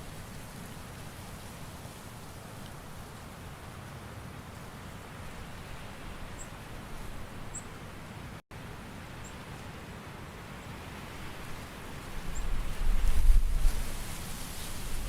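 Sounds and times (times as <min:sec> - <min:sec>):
forest rustling hiss: 0:00.0 - 0:08.3, 0:09.3 - 0:15.0.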